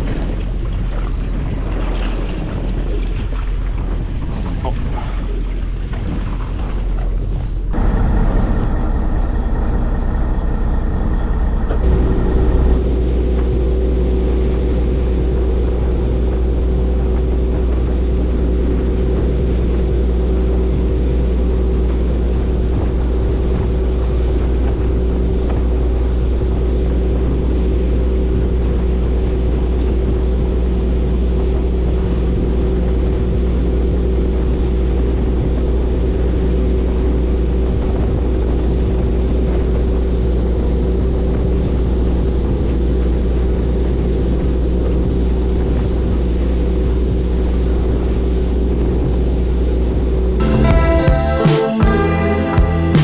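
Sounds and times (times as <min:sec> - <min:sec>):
boat engine running: 0:00.0 - 0:53.0
water noise: 0:00.0 - 0:53.0
wind: 0:00.0 - 0:53.0.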